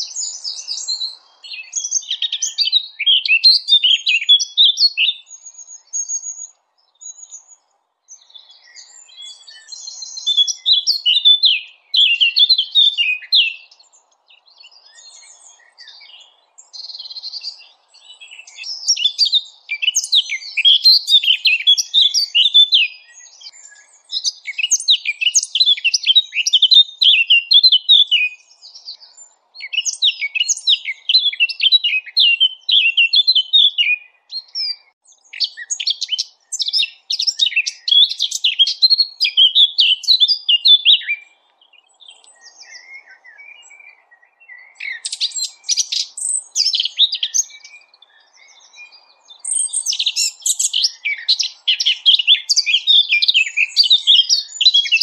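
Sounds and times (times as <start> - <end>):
songbirds chattering: 0.0 - 55.0.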